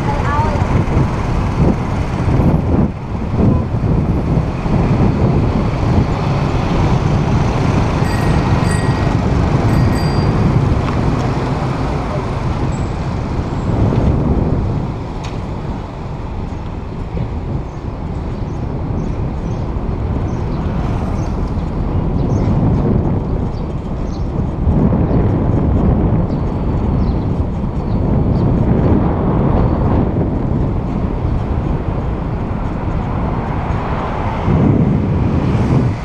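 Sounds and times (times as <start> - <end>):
street traffic: 0.0 - 36.0
wind on microphone: 0.0 - 36.0.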